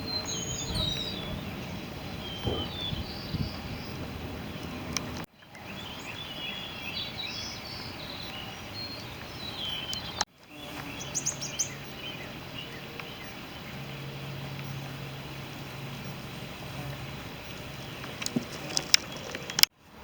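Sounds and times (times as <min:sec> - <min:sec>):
small birds chirping: 0:00.0 - 0:19.7.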